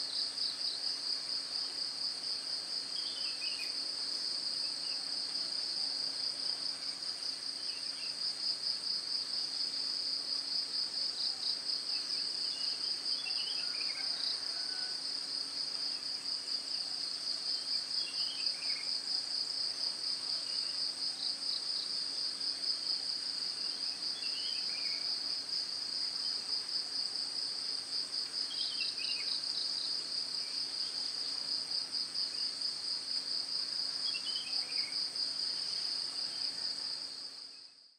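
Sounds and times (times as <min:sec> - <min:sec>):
insect chorus with pulsing trill: 0:00.0 - 0:37.9.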